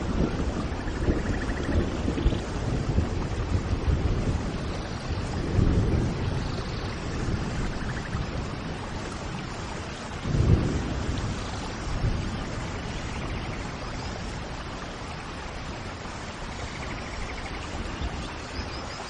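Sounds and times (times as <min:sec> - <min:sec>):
thunder rumbling: 0:00.0 - 0:18.4
steady rain: 0:00.0 - 0:19.0.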